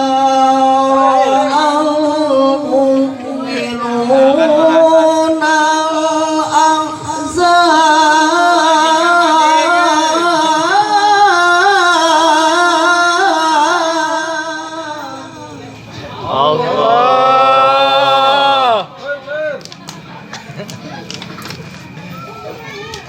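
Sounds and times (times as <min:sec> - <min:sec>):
man reciting melodically: 0:00.0 - 0:19.6.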